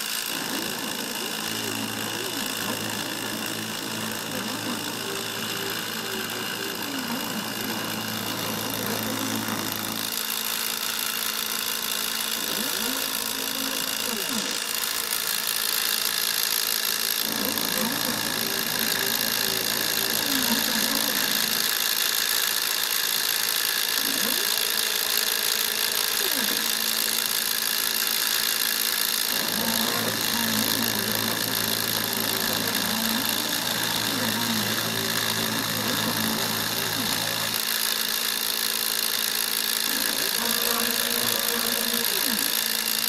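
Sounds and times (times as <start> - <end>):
axis motor tones: 0.0 - 43.0
spindle motor whining: 0.0 - 43.0.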